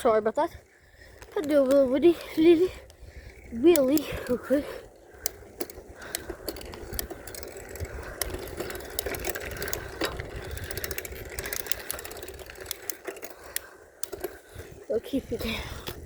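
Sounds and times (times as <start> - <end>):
bicycle tyres and drivetrain hum: 0.0 - 16.0
bike clicks and rattles: 0.0 - 16.0.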